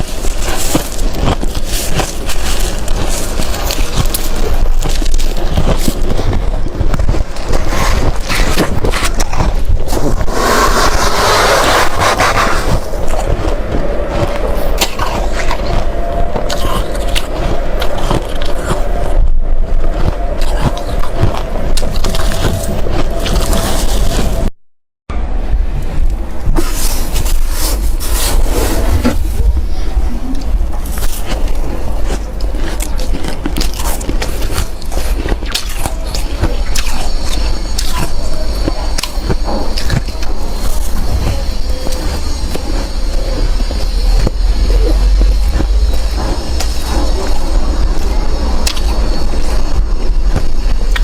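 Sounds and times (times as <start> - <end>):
crunching and chewing frost: 0.0 - 24.5, 25.9 - 51.0
steady low rumble: 0.0 - 24.5, 25.1 - 51.0.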